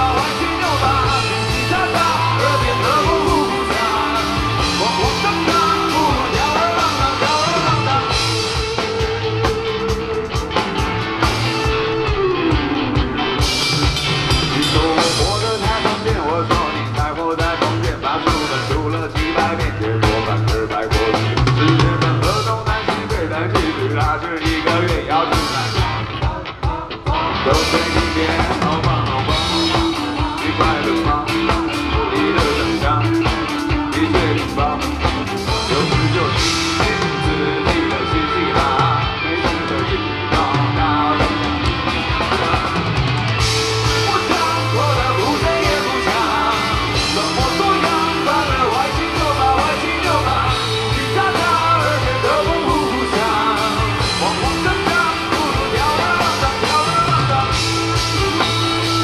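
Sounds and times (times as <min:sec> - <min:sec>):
bass guitar: 0:00.0 - 0:59.0
drum kit beat: 0:00.0 - 0:59.0
electric guitar: 0:00.0 - 0:59.0
person singing: 0:00.0 - 0:59.0.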